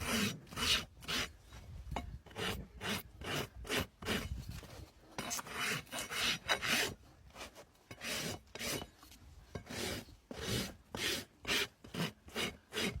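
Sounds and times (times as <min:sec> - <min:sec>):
rasp filing hoof: 0:00.0 - 0:13.0.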